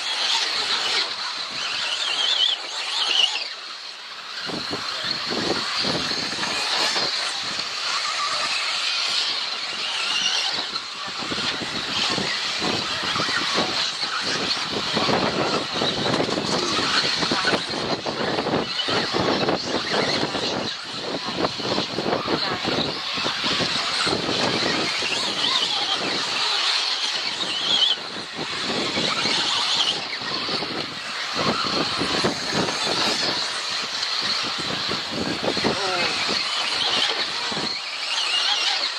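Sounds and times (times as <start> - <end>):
small motors whining: 0.0 - 38.9.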